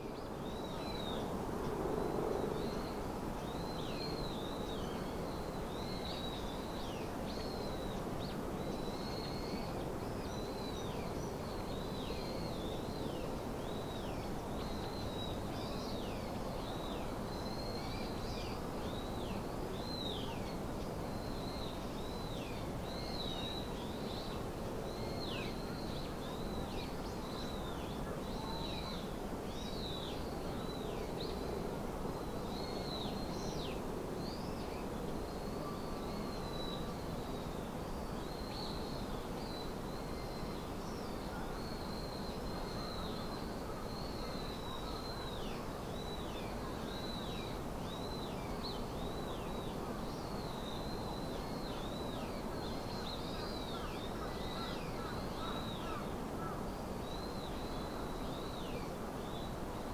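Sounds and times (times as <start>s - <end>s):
outdoor hiss and rumble: 0.0s - 59.9s.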